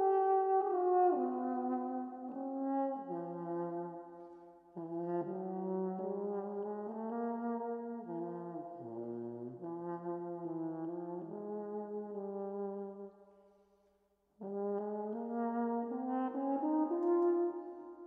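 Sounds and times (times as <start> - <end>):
solo french horn: 0.0 - 13.1, 14.4 - 18.0.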